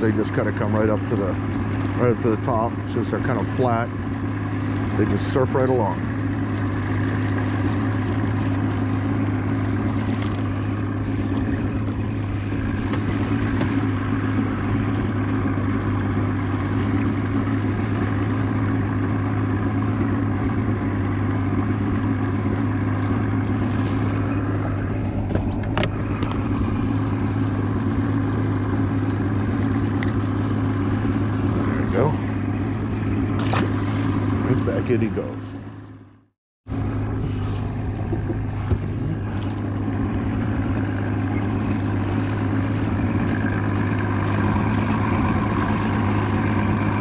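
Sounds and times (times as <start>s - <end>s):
outboard motor humming: 0.0s - 47.0s.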